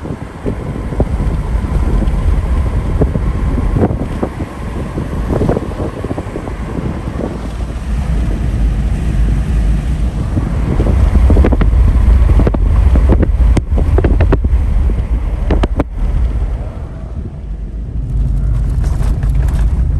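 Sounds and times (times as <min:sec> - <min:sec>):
road and engine rumble: 0:00.0 - 0:19.9
wind buffeting microphone: 0:00.0 - 0:19.9.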